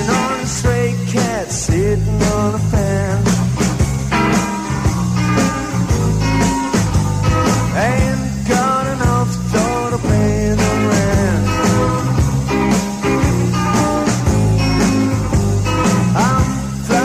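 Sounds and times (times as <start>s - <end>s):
electric guitar bending notes: 0.0s - 17.0s
rock band playing: 0.0s - 17.0s.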